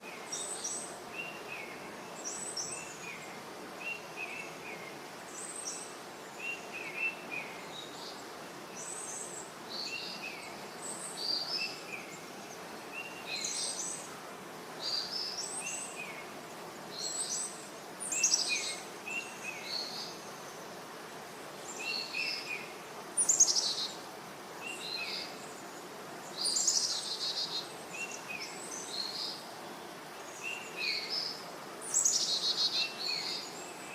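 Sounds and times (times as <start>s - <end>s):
outdoor background hiss: 0.0s - 33.9s.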